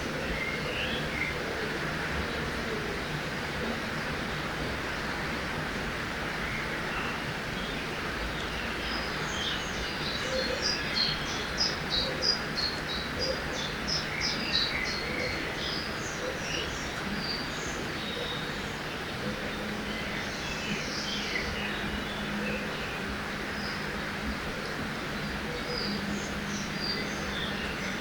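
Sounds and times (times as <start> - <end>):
flowing river water: 0.0 - 28.0.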